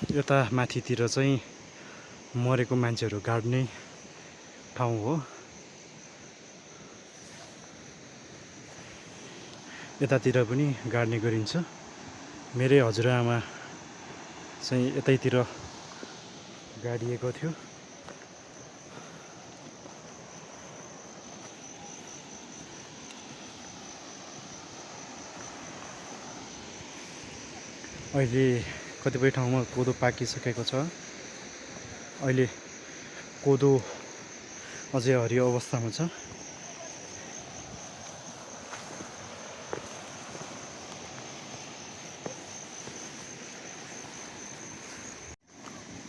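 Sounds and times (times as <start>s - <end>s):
background hiss: 0.0s - 46.0s
high-pitched insect drone: 0.0s - 46.0s
outdoor background rush: 0.0s - 46.0s.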